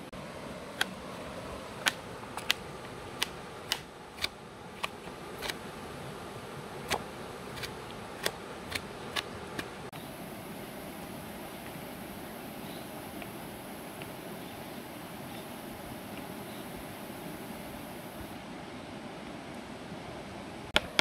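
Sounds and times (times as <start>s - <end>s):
faint background hiss: 0.0s - 20.7s.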